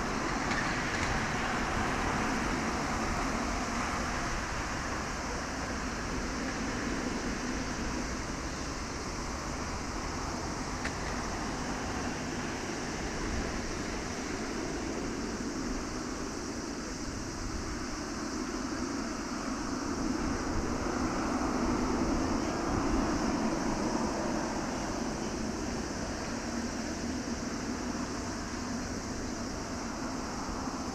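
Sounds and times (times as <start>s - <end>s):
jet engines rushing hum: 0.0s - 30.9s.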